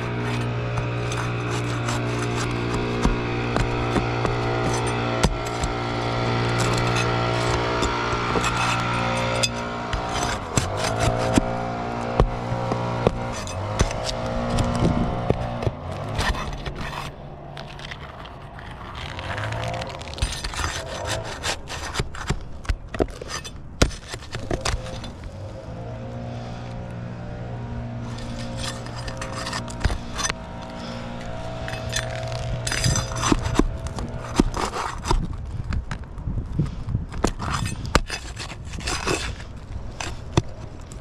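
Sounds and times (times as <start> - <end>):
tools scraping on roof shingles: 0.0 - 25.6, 28.0 - 41.0
steady low hum: 0.0 - 41.0.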